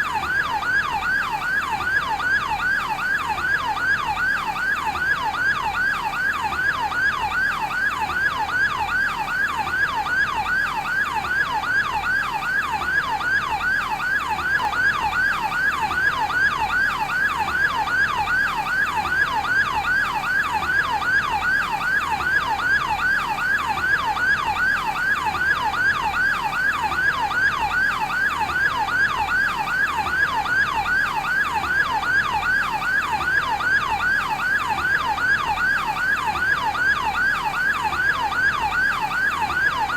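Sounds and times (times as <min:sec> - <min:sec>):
electronic yelp siren: 0:00.0 - 0:39.9.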